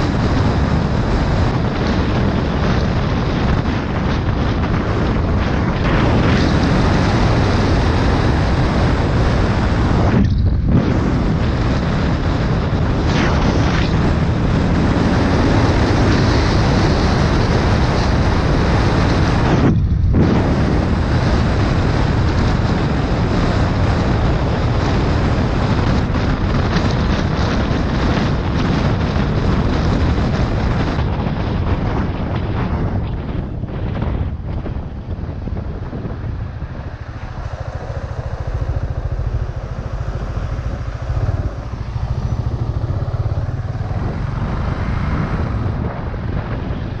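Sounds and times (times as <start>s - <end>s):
motorcycle engine: 0.0s - 47.0s
road rumble: 0.0s - 47.0s
wind noise on microphone: 0.0s - 47.0s.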